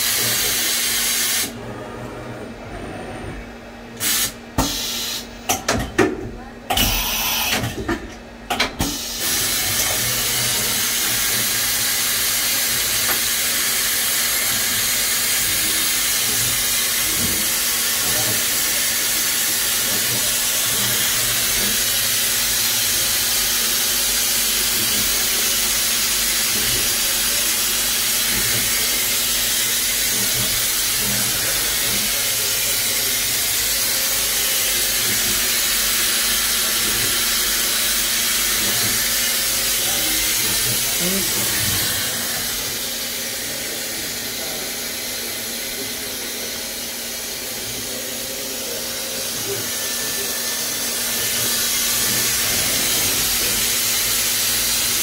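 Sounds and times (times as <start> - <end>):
machine hissing: 4.0 - 5.3, 8.8 - 55.0.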